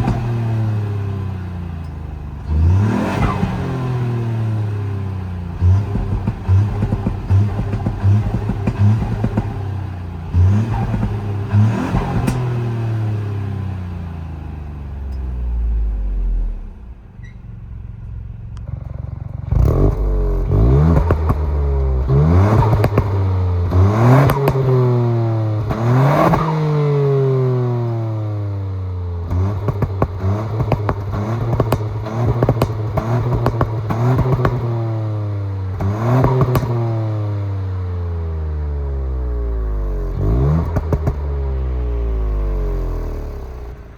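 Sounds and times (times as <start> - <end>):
car engine revving with crackles: 0.0 - 43.9.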